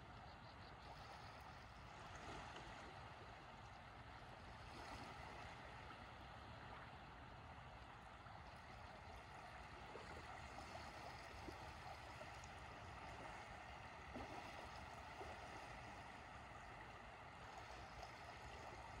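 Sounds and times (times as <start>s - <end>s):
water lapping on shore: 0.0s - 19.0s.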